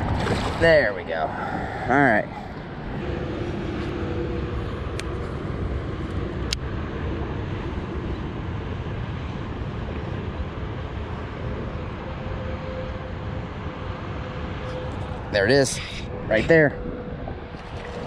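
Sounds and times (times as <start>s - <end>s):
faint hum: 0.0s - 18.0s
low outdoor rumble: 0.0s - 18.0s.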